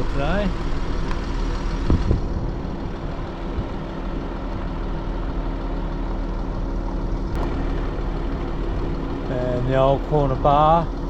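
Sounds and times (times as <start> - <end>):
vehicle engine low hum: 0.0 - 11.0.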